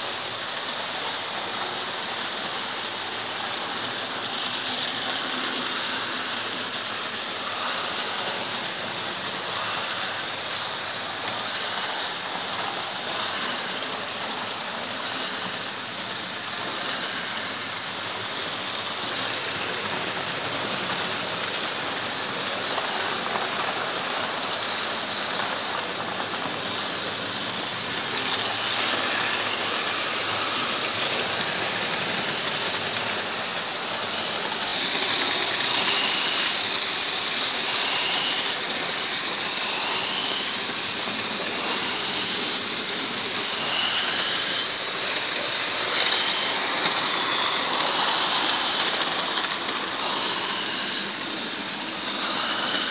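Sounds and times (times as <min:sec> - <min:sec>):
model trains running on track: 0:00.0 - 0:52.9.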